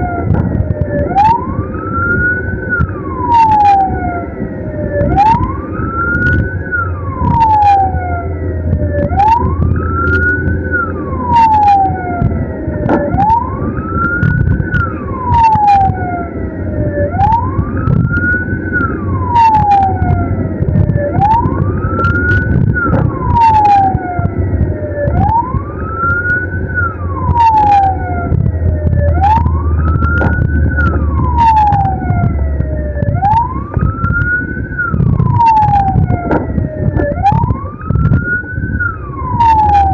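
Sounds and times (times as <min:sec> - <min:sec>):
ambulance siren wailing: 0:00.0 - 0:39.9
engine and road rumble: 0:00.0 - 0:39.9.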